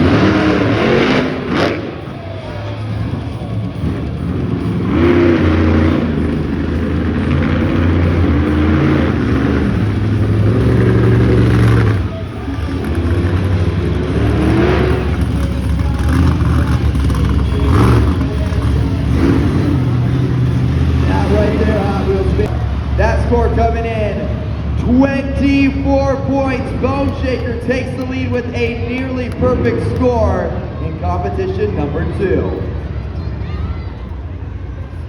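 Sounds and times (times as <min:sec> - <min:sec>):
monster truck engine revving: 0:00.0 - 0:35.0.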